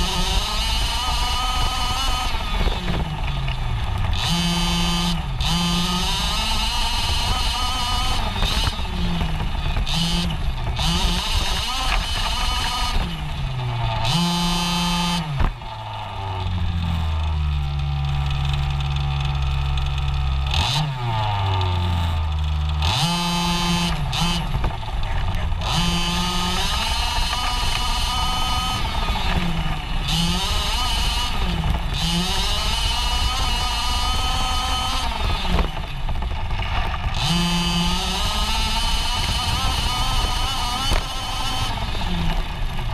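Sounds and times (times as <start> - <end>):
two-stroke engine revving: 0.0 - 42.9.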